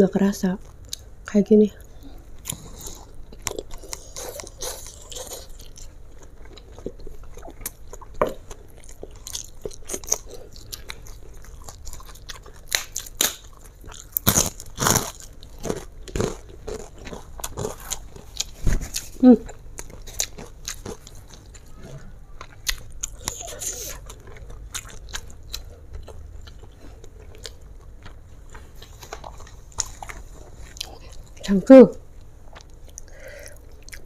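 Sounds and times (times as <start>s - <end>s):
chewing noodles: 1.9s - 31.4s.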